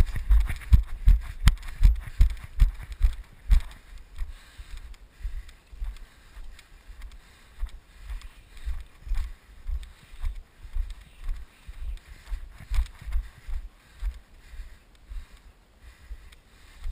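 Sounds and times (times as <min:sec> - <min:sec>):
footsteps on grass: 0:00.0 - 0:16.9.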